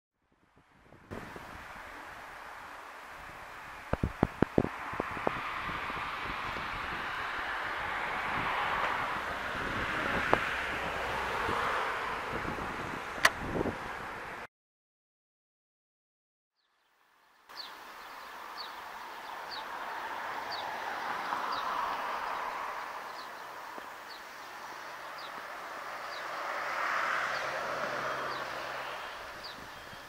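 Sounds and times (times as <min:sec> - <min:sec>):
wind rustling grass and trees: 0:00.2 - 0:14.5, 0:16.6 - 0:30.0.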